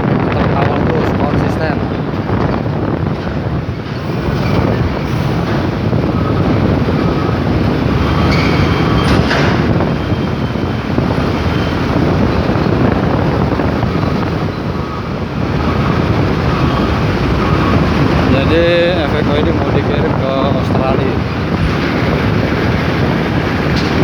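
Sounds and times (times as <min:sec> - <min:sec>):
tyres on road: 0:00.0 - 0:24.0
vehicle engines rumbling: 0:00.0 - 0:24.0
wind rushing: 0:00.0 - 0:24.0.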